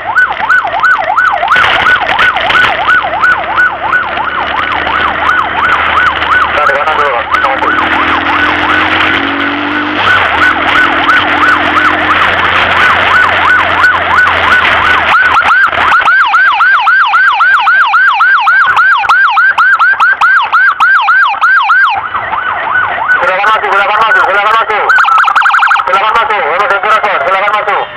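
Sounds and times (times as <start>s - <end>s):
road and wind noise: 0.0s - 27.9s
siren in fast yelp: 0.0s - 27.9s.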